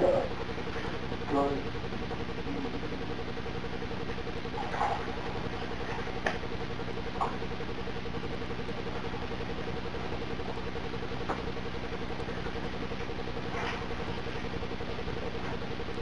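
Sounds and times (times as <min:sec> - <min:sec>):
mechanical hum with pulsing buzz: 0:00.0 - 0:16.0.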